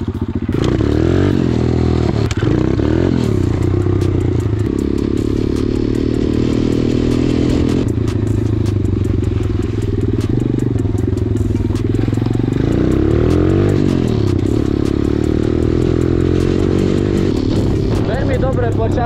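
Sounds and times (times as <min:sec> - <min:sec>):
motorbike engine accelerating: 0:00.0 - 0:19.0.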